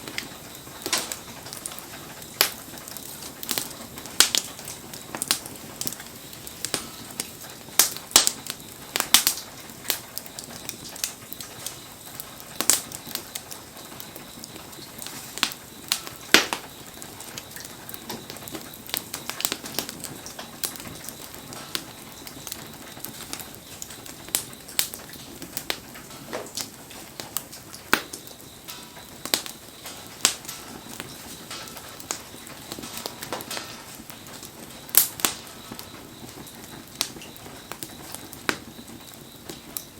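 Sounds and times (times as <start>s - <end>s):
campfire crackling and popping: 0.0s - 39.9s
rain hissing: 0.0s - 39.9s.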